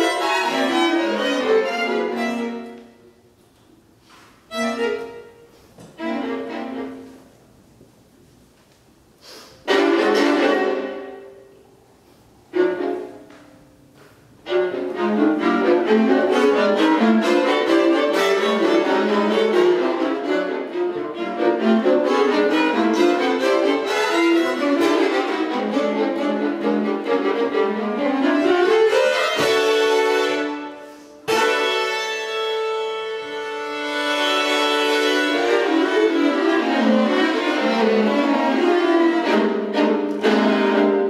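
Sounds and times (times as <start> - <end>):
string quartet playing chamber music: 0.0 - 41.0.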